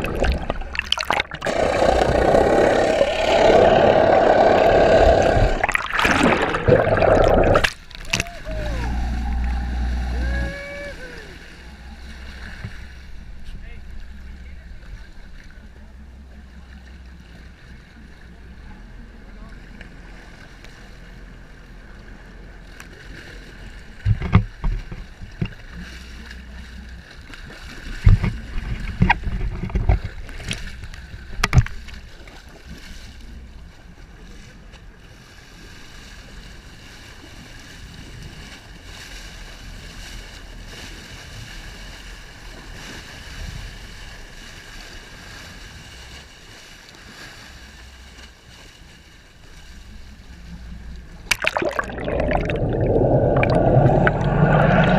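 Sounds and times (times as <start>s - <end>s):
boat engine running: 0.0s - 46.4s, 47.4s - 54.9s.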